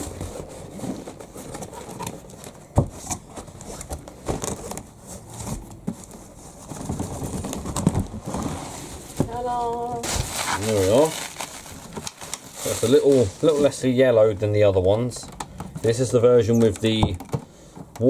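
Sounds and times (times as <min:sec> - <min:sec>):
plastic bag rustling and crinkling: 0:00.0 - 0:16.6.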